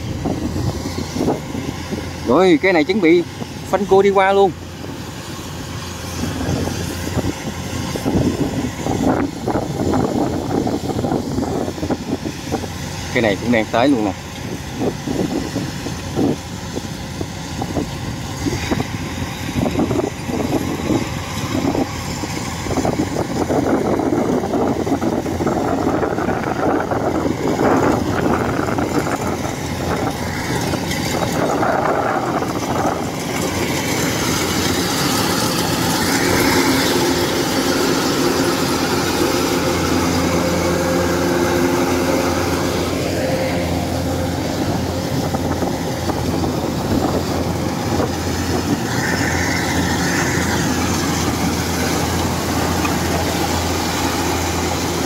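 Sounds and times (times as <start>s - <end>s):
combine harvesters running: 0.0s - 55.0s.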